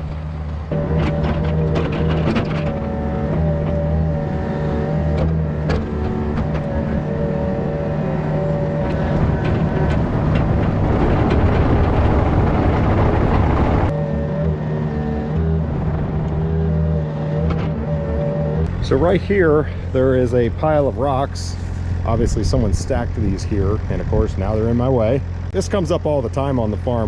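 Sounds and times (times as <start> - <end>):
hydraulic whine: 0.0 - 25.6
excavator diesel engine under load: 0.0 - 27.0.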